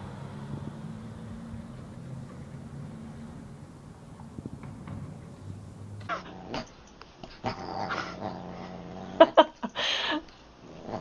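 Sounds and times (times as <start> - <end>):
dog growling: 0.9 - 9.4, 10.6 - 11.0.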